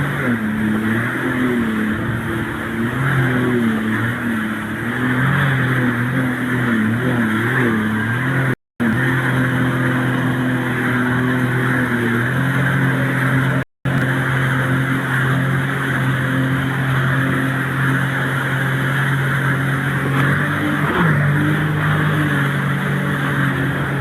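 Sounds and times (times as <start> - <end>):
motor engine running: 0.0 - 24.0
rush of wind or water: 0.0 - 24.0.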